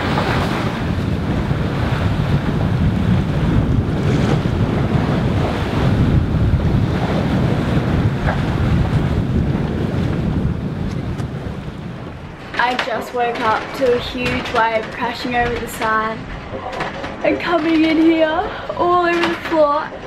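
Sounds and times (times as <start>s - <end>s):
sea waves rushing: 0.0s - 20.0s
wind buffeting microphone: 0.0s - 20.0s.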